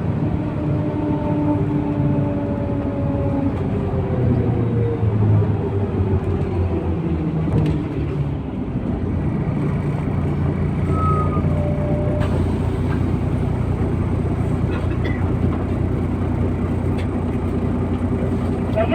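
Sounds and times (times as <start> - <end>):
bus diesel engine rumble: 0.0 - 18.9.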